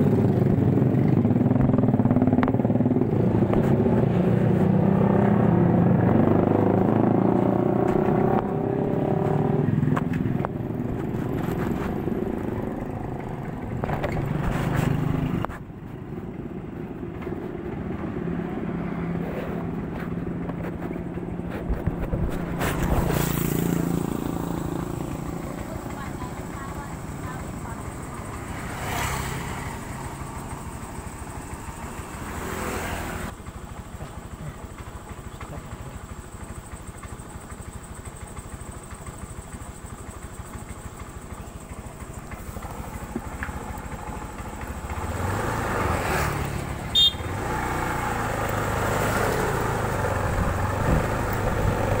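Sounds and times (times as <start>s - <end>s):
motorcycle engine idling: 0.0s - 4.1s, 5.1s - 52.0s.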